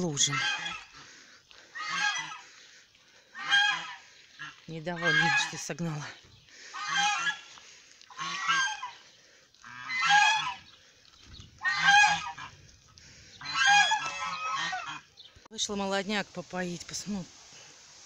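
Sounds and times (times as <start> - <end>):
geese honking: 0.0 - 15.2.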